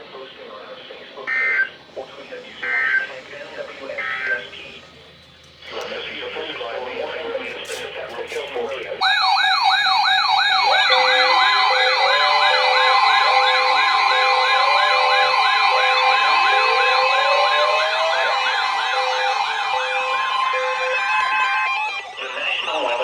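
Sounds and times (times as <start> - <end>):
steady alarm tones: 0.0 - 23.0
siren-like warble: 1.3 - 7.2, 9.0 - 22.5.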